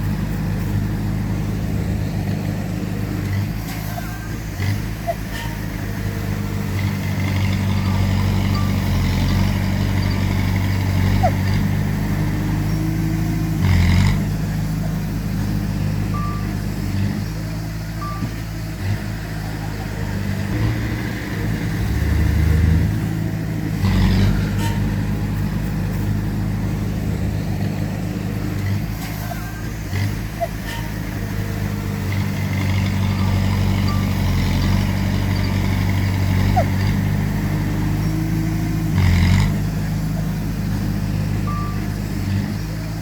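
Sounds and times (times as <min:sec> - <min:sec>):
heavy diesel machinery running: 0:00.0 - 0:43.0.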